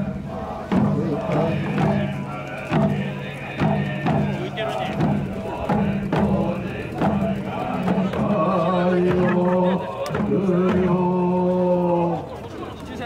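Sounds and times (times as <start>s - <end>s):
men chanting low notes: 0.0s - 12.6s.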